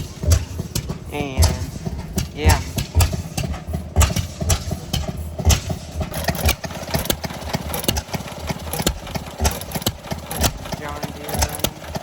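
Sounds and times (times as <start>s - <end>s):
gas engine chugging: 0.0s - 12.0s
sharp engine clicks: 0.0s - 12.0s.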